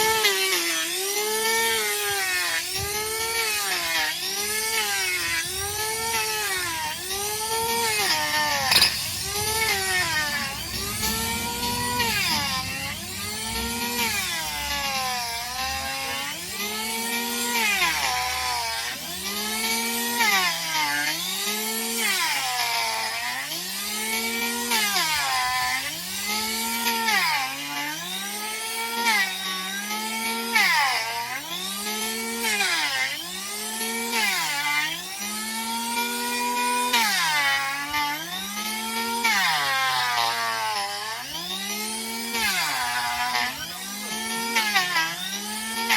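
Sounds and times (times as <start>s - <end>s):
power tool grinding hoof: 0.0s - 45.9s.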